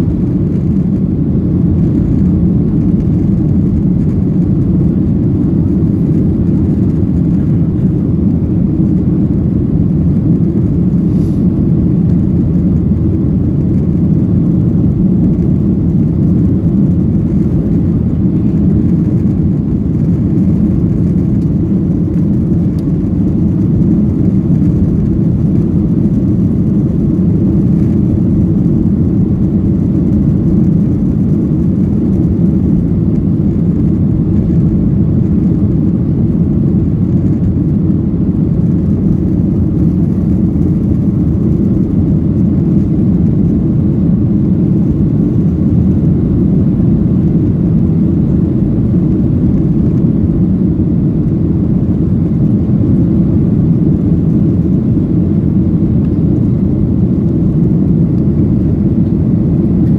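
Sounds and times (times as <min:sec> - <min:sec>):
airplane cabin engine rush: 0:00.0 - 0:59.9.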